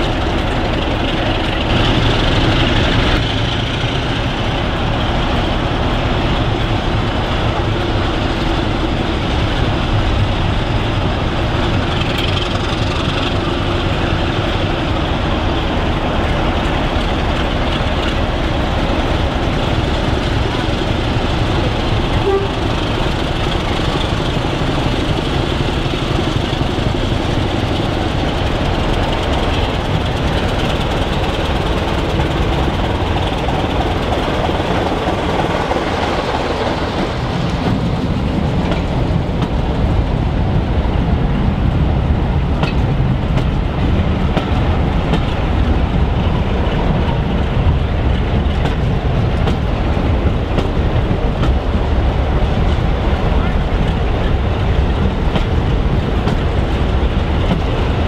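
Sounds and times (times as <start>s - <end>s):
diesel locomotive engine rumbling: 0.0s - 58.0s
train coaches rolling by: 0.0s - 58.0s.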